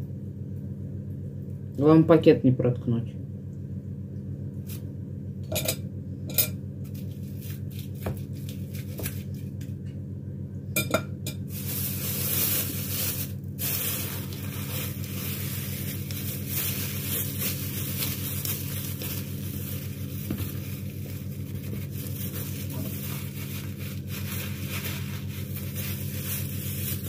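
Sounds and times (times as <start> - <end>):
constant low hum: 0.0 - 27.0.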